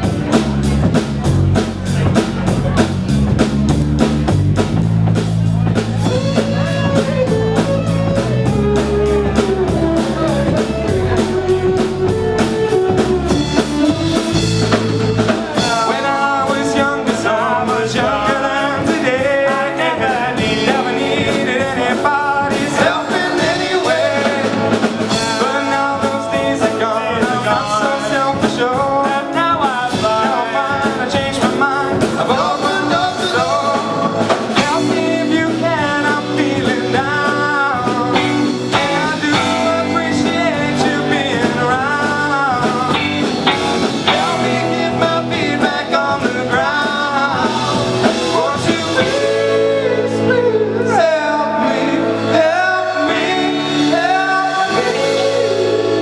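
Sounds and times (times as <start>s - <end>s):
live rock band playing: 0.0s - 56.0s
lead vocal singing: 4.5s - 56.0s.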